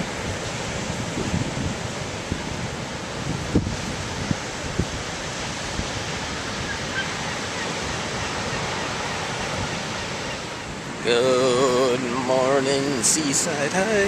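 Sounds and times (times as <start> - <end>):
ocean surf rushing: 0.0 - 14.0
wind: 0.0 - 14.0.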